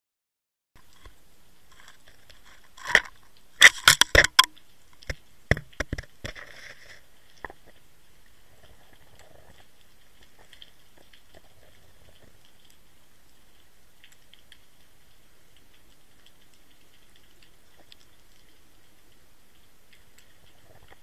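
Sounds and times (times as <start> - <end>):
camera bumping on pebbles underwater: 0.8 - 21.0.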